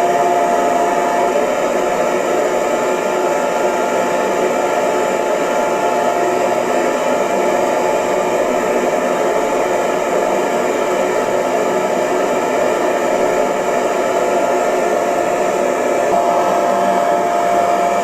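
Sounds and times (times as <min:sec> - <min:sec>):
hair dryer running: 0:00.0 - 0:18.0.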